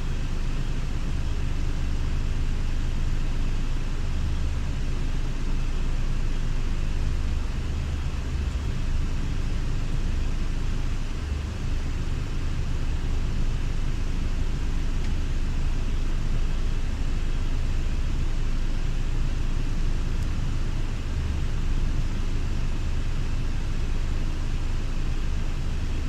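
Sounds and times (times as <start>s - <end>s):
diesel coach engine droning: 0.0s - 26.0s.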